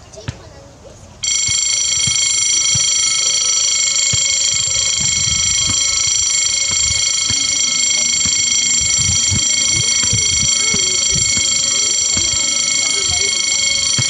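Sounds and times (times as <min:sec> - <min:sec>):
level crossing warning bell: 0:01.2 - 0:14.0.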